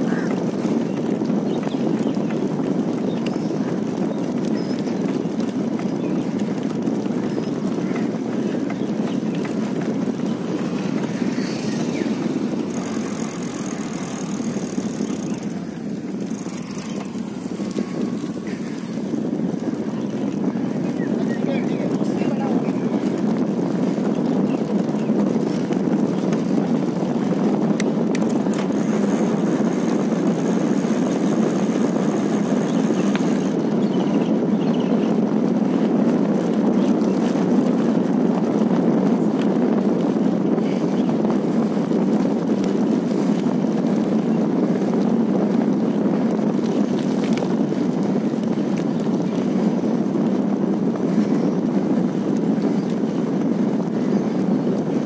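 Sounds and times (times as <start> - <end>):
road travel rushing noise: 0.0 - 55.0
wind on microphone: 0.0 - 55.0.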